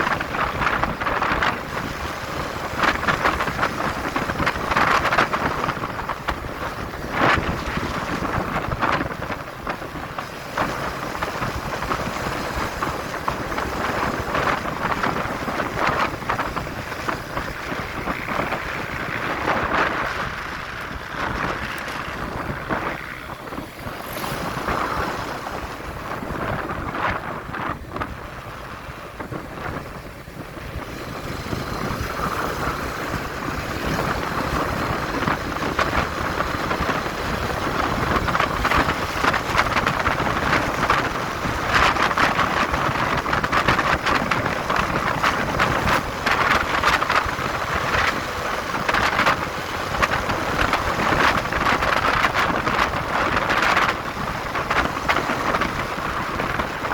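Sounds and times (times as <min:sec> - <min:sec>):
motorcycle engine: 0:00.0 - 0:56.9
road noise: 0:00.0 - 0:56.9
wind buffeting microphone: 0:00.0 - 0:56.9.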